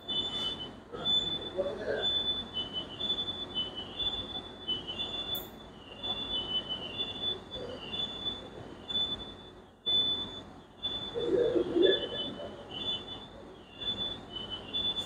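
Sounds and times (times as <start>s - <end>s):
broad machine noise: 0.0s - 15.0s
milling machine whine: 0.0s - 15.0s
wavering machine tone: 0.0s - 15.0s.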